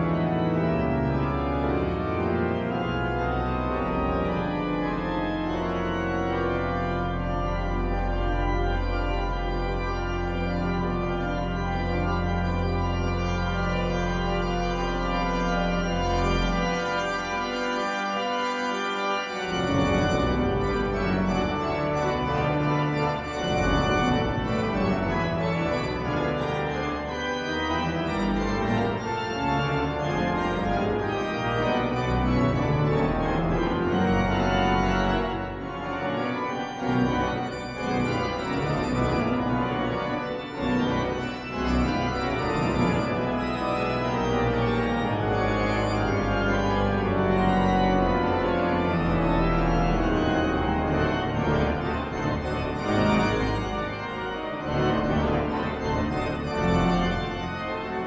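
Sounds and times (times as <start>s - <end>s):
pipe organ playing: 0.0s - 58.0s.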